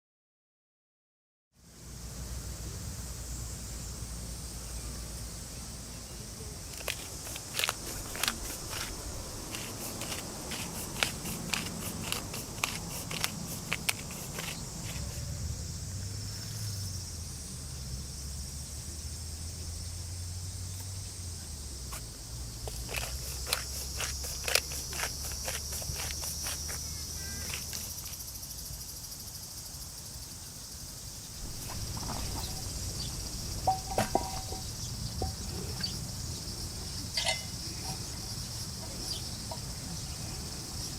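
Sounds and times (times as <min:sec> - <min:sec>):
high insect drone: 0:01.6 - 0:40.9.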